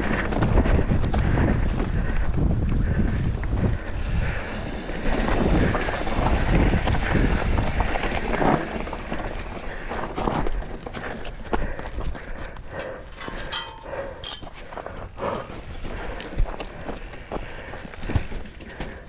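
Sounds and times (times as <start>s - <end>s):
wind buffeting microphone: 0.0s - 18.4s
bike rumbling over rough trail: 0.0s - 19.0s.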